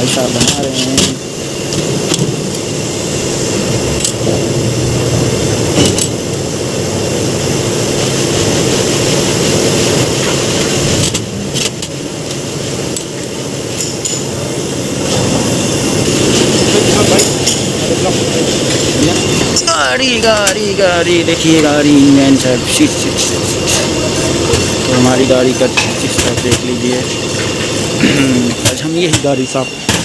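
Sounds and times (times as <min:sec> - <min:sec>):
workshop machinery hum: 0:00.0 - 0:30.0.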